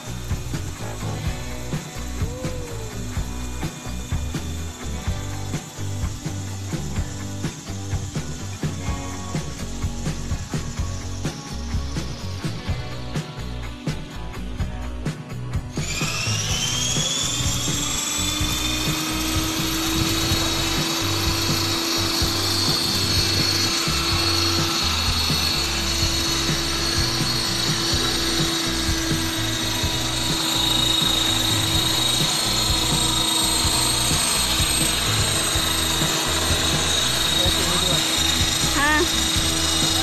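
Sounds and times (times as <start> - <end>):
rc helicopter motor whining: 0.0 - 40.0.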